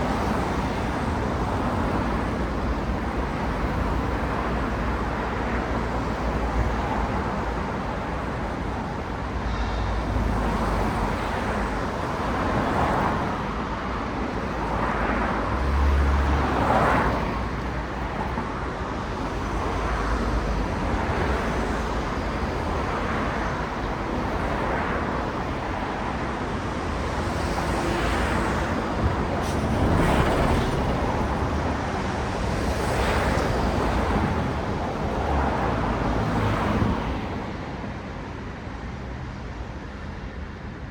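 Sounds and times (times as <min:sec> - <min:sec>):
cars passing: 0:00.0 - 0:39.7
low traffic rumble: 0:00.0 - 0:40.9.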